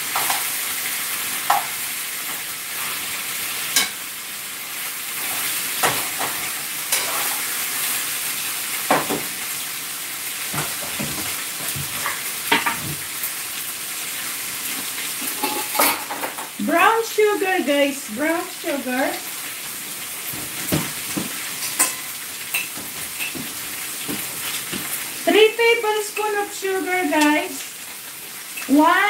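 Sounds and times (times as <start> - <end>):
ribs sizzling in a pan: 0.0 - 29.0.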